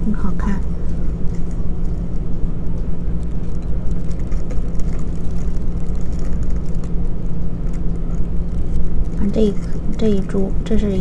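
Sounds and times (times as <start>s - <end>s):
low machine hum: 0.0s - 11.0s
plastic sleeve crinkling: 0.8s - 11.0s.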